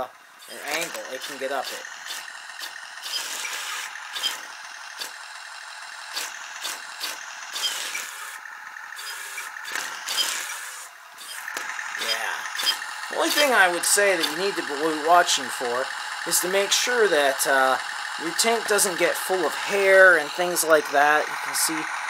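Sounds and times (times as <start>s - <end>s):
toy tank motor whir: 0.0s - 22.0s.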